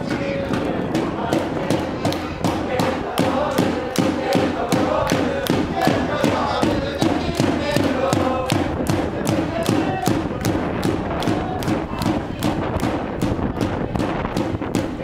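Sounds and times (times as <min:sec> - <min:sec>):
supporters chanting: 0:00.0 - 0:14.2
rhythmic clapping: 0:00.1 - 0:15.0.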